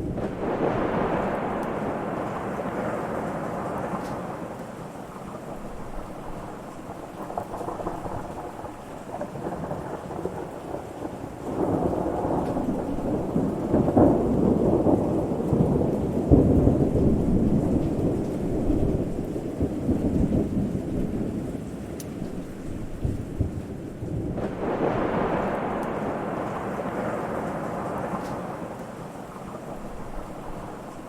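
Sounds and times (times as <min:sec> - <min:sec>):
steady rain: 0:00.0 - 0:31.0
thunder rumbling: 0:00.0 - 0:31.0.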